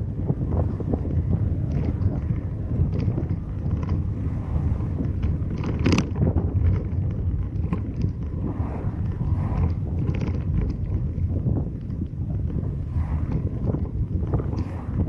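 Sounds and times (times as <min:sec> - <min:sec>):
road and engine rumble: 0:00.0 - 0:15.0
wind buffeting microphone: 0:00.0 - 0:15.0.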